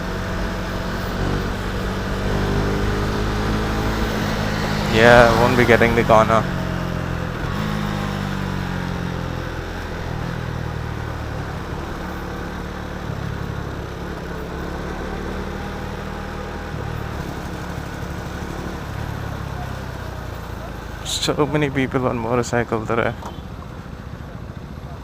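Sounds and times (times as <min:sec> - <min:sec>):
motorcycle engine running: 0:00.0 - 0:22.5
wind and road noise: 0:00.0 - 0:25.0.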